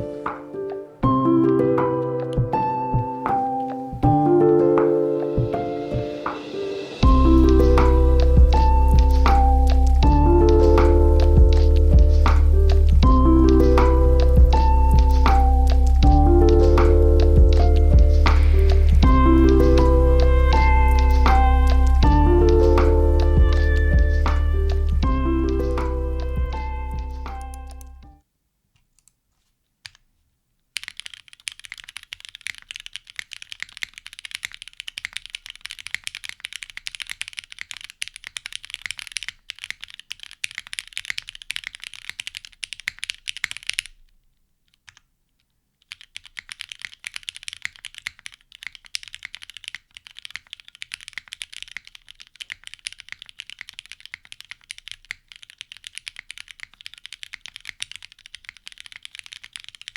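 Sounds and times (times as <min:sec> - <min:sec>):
mechanical keyboard typing: 0:07.3 - 0:28.0, 0:30.8 - 0:44.1, 0:45.8 - 0:59.9.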